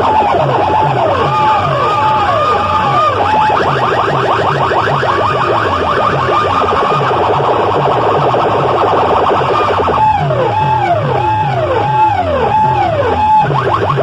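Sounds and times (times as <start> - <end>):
bass beat: 0.0 - 14.0
electronic siren effects: 0.0 - 14.0.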